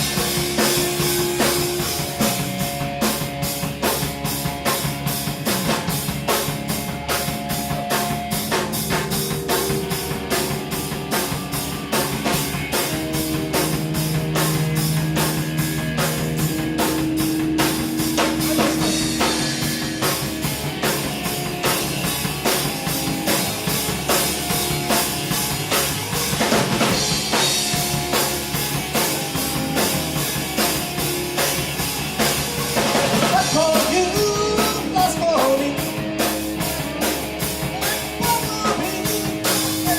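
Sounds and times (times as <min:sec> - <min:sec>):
drum kit steady beat: 0:00.0 - 0:39.9
electric guitar held notes bending: 0:00.0 - 0:39.9.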